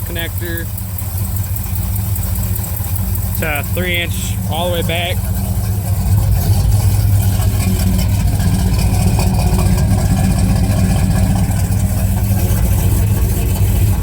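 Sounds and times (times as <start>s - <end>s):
engine exhaust rumble idling: 0.0s - 14.0s.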